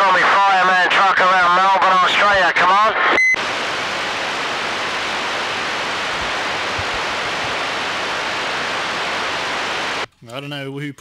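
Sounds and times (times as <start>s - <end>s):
radio static hiss: 0.0s - 10.1s.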